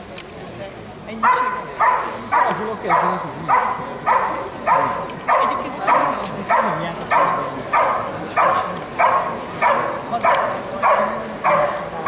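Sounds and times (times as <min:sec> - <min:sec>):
dog barking rhythmically: 0:01.2 - 0:12.0.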